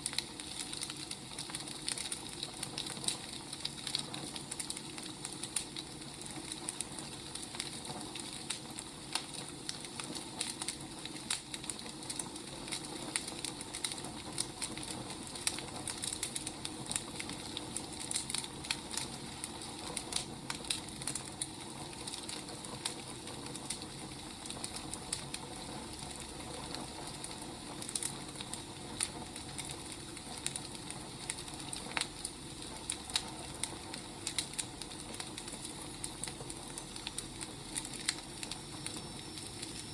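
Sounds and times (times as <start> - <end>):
firewood crackling and hissing: 0.0 - 39.9.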